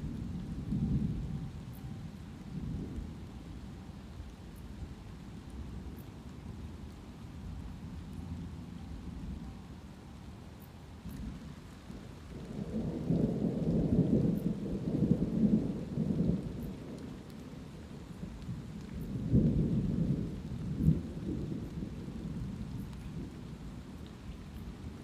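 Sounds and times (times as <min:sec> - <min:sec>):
thunder rumbling: 0:00.0 - 0:05.8, 0:06.5 - 0:25.0
light steady rainfall: 0:00.0 - 0:25.0.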